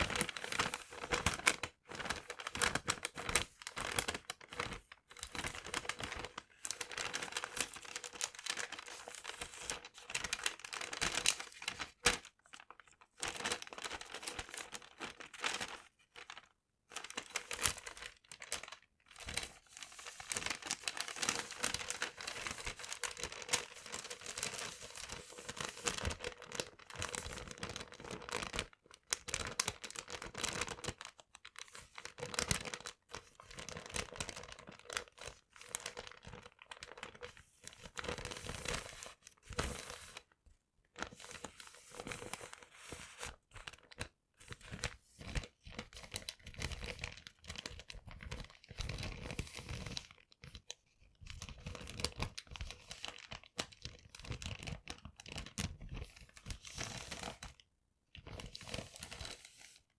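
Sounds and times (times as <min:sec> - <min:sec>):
paper crinkling and crumpling: 0:00.0 - 0:40.4, 0:41.0 - 0:57.6, 0:58.2 - 0:59.9.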